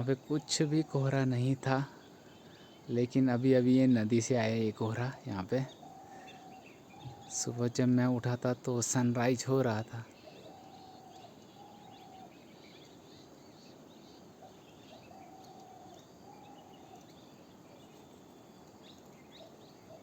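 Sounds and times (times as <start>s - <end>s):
dove cooing faintly: 0.0s - 20.0s
small birds chirping: 0.0s - 20.0s.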